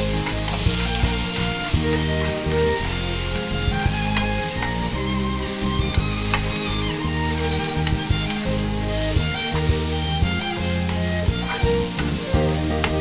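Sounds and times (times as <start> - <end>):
background music with held notes: 0.0 - 13.0
noodles sizzling in a frying pan: 0.0 - 13.0.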